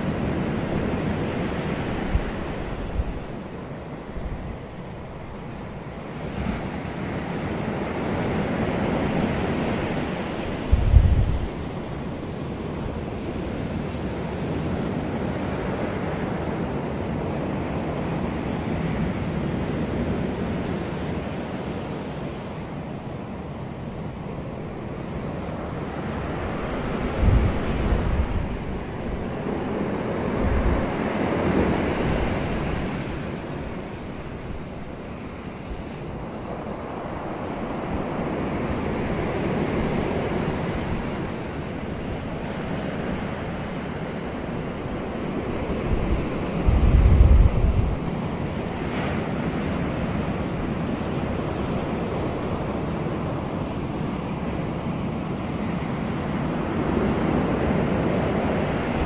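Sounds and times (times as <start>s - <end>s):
wind buffeting microphone: 0.0s - 21.9s, 24.8s - 59.0s
ocean surf breaking: 0.0s - 59.0s.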